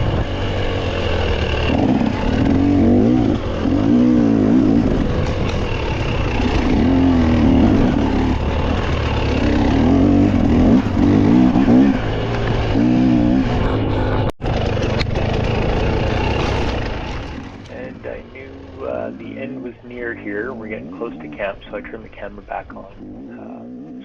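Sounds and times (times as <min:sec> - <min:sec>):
constant rushing noise: 0:00.0 - 0:24.0
dirt bike engine revving: 0:00.0 - 0:24.0.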